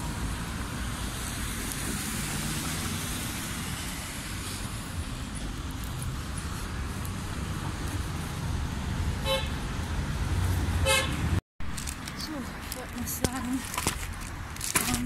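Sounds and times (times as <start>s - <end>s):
street traffic passing cars: 0.0s - 15.0s.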